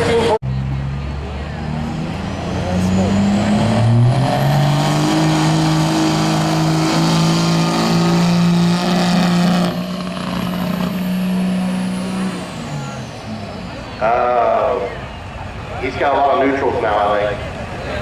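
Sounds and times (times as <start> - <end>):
engine at full throttle: 0.0 - 15.8.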